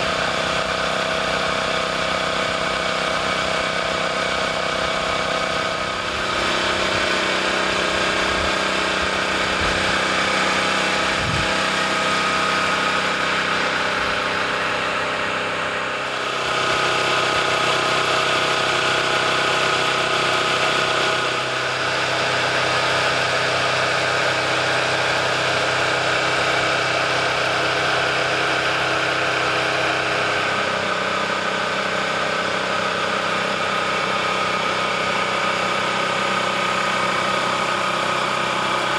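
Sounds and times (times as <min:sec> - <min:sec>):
large engine humming: 0:00.0 - 0:38.9.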